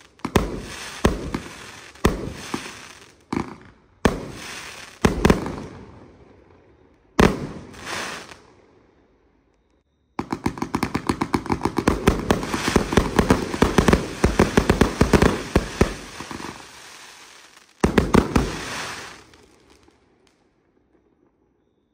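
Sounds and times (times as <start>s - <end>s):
fireworks shots bursting: 0.0s - 8.6s, 10.2s - 20.3s.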